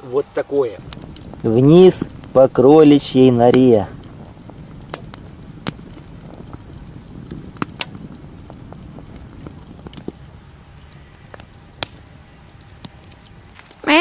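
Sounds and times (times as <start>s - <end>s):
fire crackling and snapping: 0.0s - 14.0s
fire low rumble: 0.0s - 14.0s.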